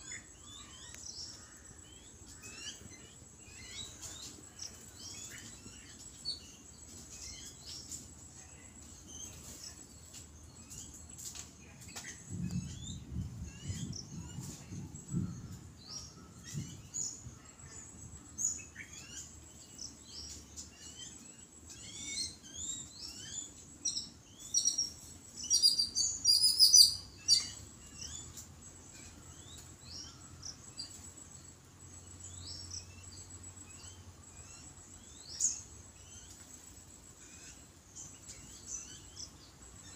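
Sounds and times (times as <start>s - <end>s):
birds chattering squeaky chirps: 0.0s - 39.9s.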